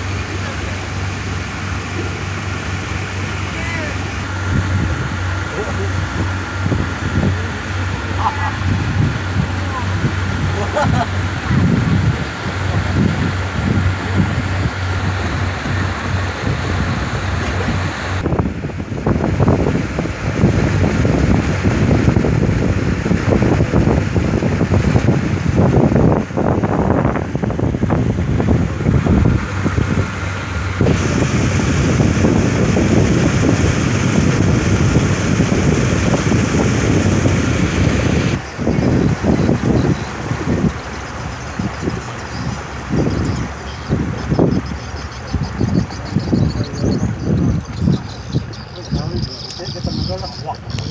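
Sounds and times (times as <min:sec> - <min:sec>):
boat engine running: 0:00.0 - 0:50.9
water rushing along hull: 0:00.0 - 0:50.9
wind buffeting microphone: 0:00.0 - 0:50.9.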